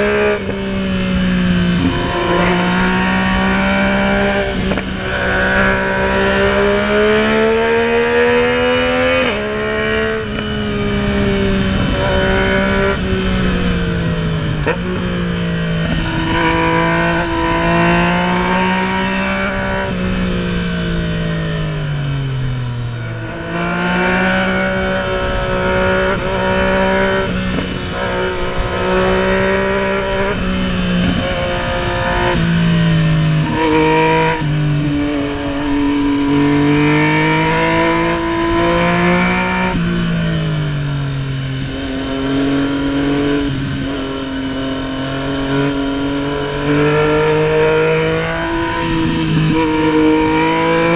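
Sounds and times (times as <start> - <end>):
motorcycle engine: 0.0 - 50.9
wind rush: 0.0 - 50.9.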